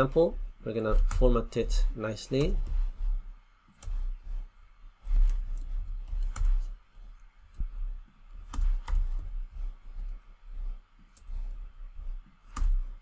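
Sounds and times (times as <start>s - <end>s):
keyboard typing: 0.8s - 4.2s, 5.0s - 10.3s, 11.0s - 13.0s.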